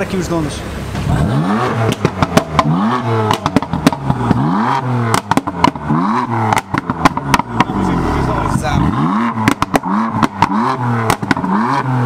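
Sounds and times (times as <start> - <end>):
car engine revving: 0.3 - 12.0
exhaust pops and crackles: 0.9 - 12.0.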